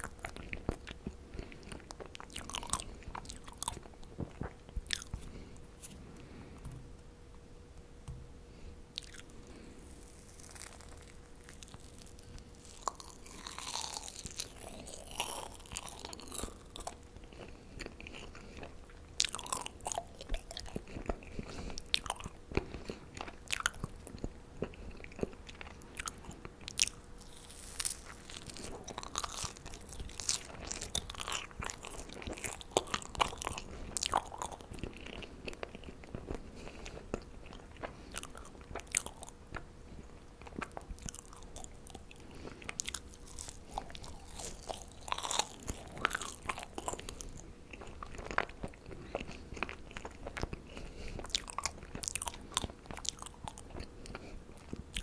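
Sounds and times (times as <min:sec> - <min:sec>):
chewing marshmallows: 0:00.0 - 0:05.6, 0:08.9 - 0:55.0.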